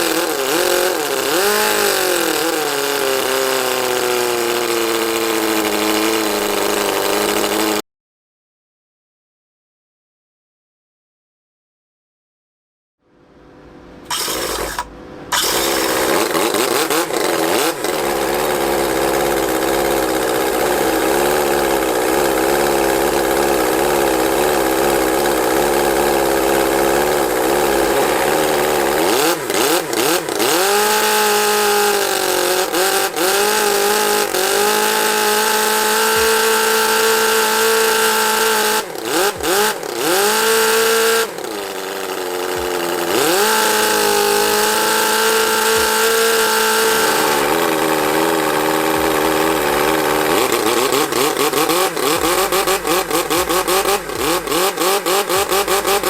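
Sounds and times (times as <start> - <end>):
model engine revving: 0.0 - 7.8, 14.1 - 56.0.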